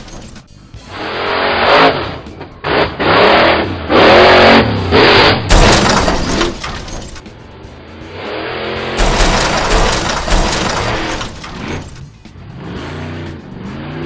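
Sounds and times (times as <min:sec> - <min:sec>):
cartoon truck engine revving: 0:00.8 - 0:06.8, 0:08.0 - 0:14.0.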